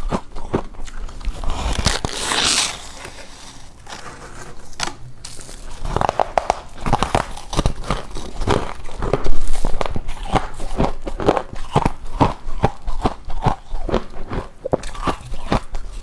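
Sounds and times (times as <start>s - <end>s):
chewing crunchy ice: 0.0s - 4.2s, 5.3s - 16.0s.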